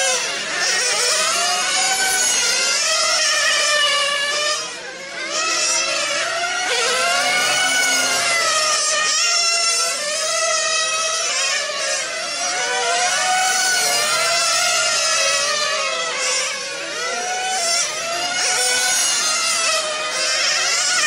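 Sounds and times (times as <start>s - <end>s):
rc car engines whining: 0.0s - 21.0s.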